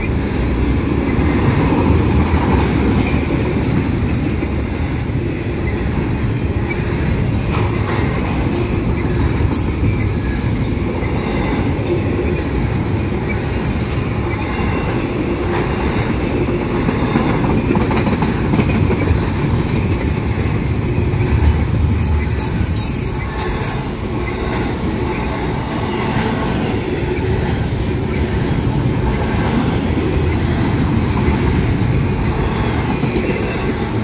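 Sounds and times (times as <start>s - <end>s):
freight train wheels rumbling on rail: 0.0s - 34.0s.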